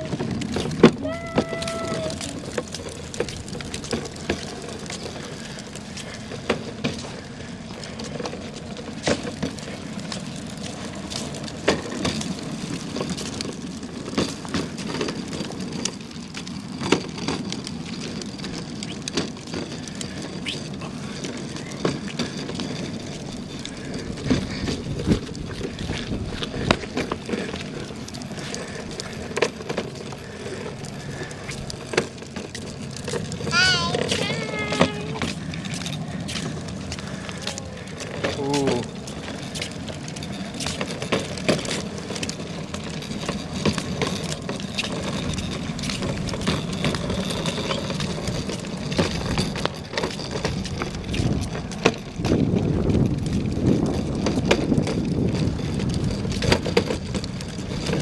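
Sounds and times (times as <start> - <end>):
wheels rumbling over rough ground: 0.0 - 58.0.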